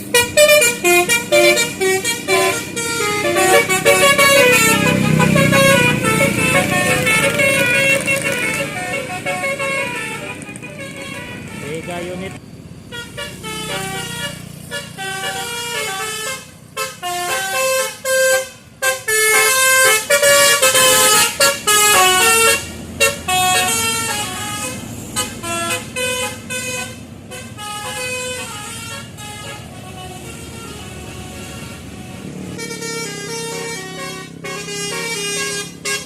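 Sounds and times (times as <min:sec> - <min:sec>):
bus engines running: 0:00.0 - 0:36.0
multi-tone bus air horns melody: 0:00.0 - 0:36.0.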